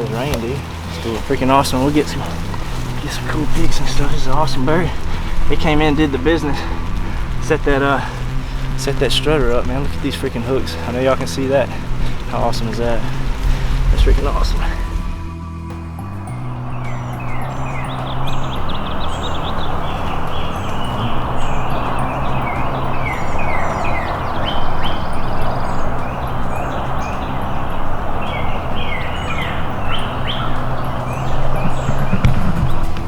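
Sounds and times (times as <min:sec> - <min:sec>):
birds chirping: 0:00.0 - 0:33.0
low droning hum: 0:00.0 - 0:33.0
steady hiss: 0:00.0 - 0:33.0.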